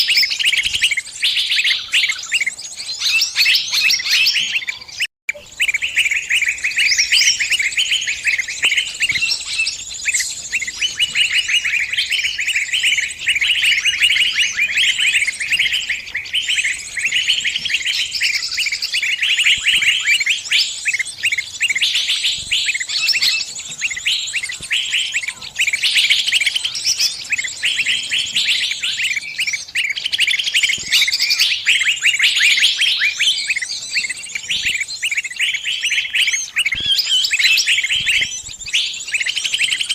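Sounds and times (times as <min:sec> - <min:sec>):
small bird distress chirping: 0:00.0 - 0:39.9.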